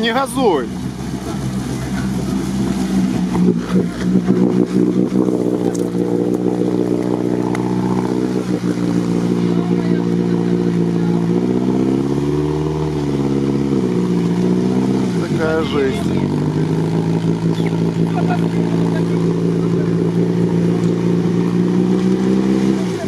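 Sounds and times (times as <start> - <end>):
off-road engine revving under load: 0.0 - 23.0.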